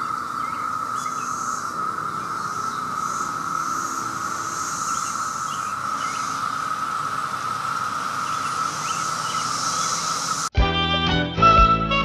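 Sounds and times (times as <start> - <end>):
cicadas droning: 0.0 - 10.5.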